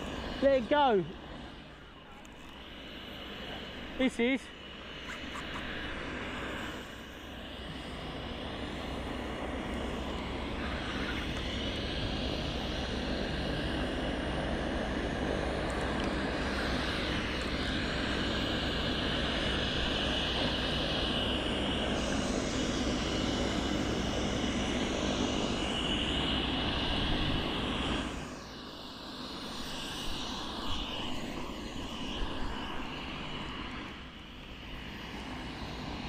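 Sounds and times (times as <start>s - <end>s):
aircraft flying overhead: 0.0s - 36.0s.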